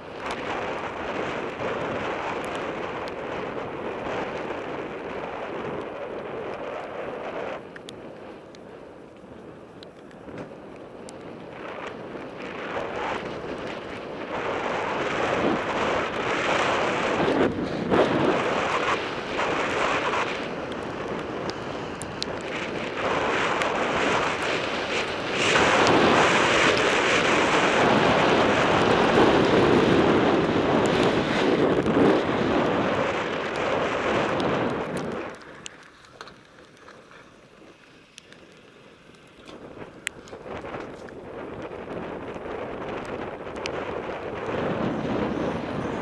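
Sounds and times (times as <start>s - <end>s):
tyre noise on trail: 0.0s - 46.0s
wind rushing over microphone: 0.0s - 46.0s
bike clicks and rattles: 0.1s - 46.0s.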